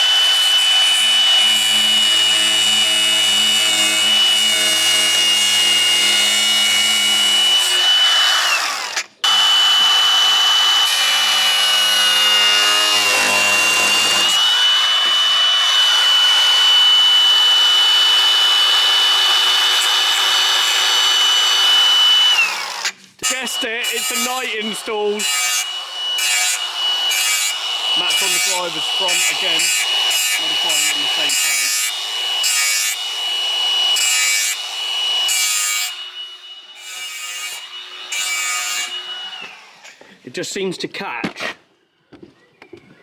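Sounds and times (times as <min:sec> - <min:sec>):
power tool motor whine: 0:00.0 - 0:36.8.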